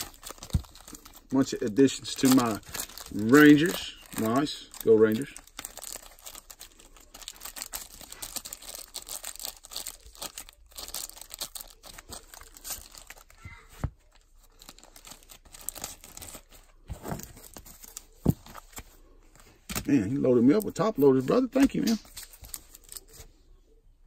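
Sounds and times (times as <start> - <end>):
plastic sleeves crinkling: 0.0 - 23.4.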